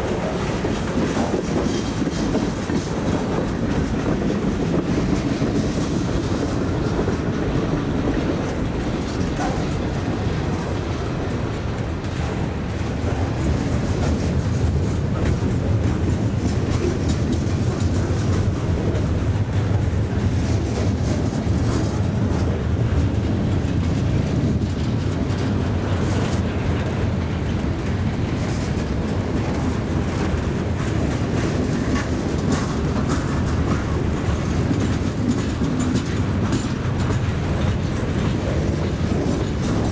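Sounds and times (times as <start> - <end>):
train cars clicking and clattering: 0.0 - 39.9
train wheels rumbling on rail: 0.0 - 39.9.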